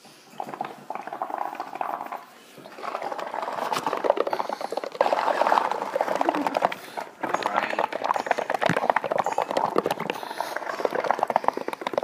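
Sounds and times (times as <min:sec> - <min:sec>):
water bubbling and gurgling: 0:00.0 - 0:12.0.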